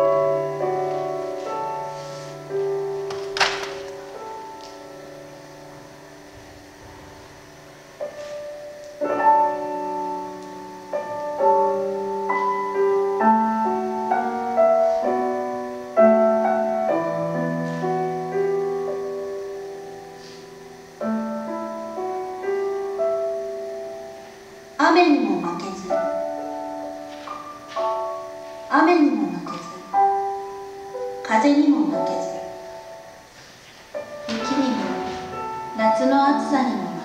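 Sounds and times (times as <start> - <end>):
slow gentle solo piano: 0.0 - 24.8, 25.4 - 37.0.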